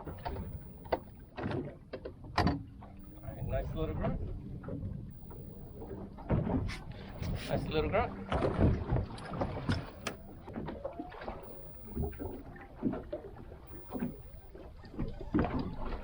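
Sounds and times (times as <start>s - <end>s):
low steady rumble: 0.0s - 14.8s.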